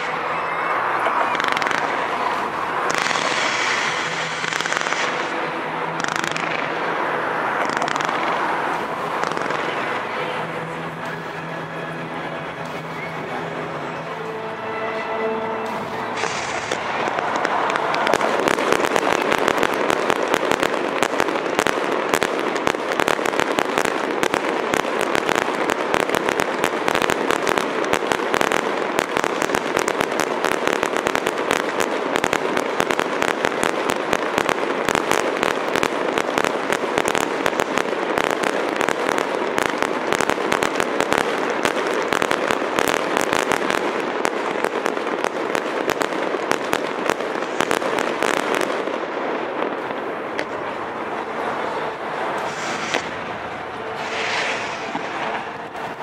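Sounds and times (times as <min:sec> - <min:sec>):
fireworks popping and crackling: 0:00.0 - 0:14.2, 0:15.6 - 0:56.0.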